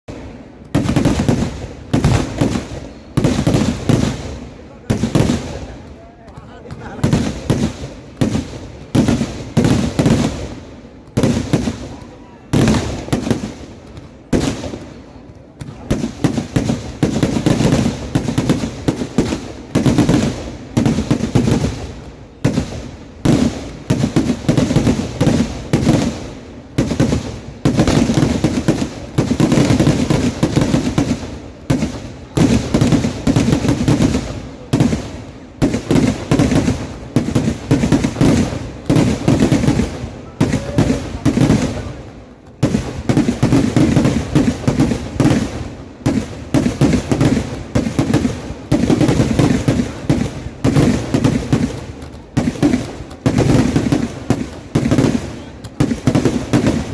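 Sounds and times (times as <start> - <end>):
fireworks loud bangs: 0.1 - 56.9.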